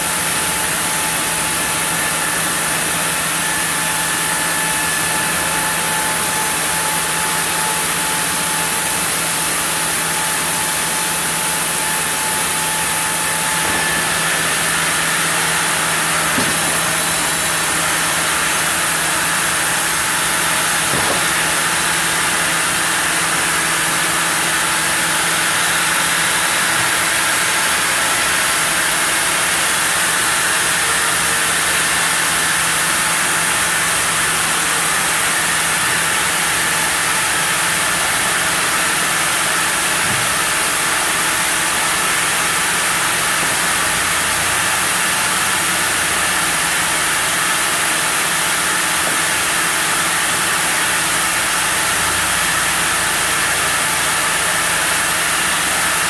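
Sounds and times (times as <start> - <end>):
sawmill saw cutting wood: 0.0 - 56.0.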